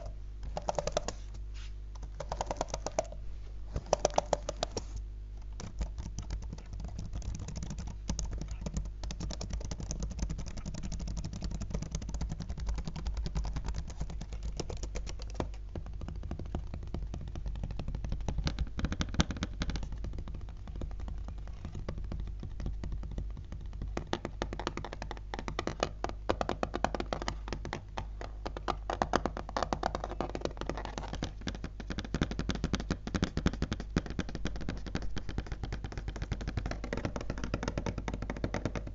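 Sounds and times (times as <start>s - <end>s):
fingers typing on laptop: 0.0s - 1.2s, 2.0s - 3.2s, 3.8s - 38.9s.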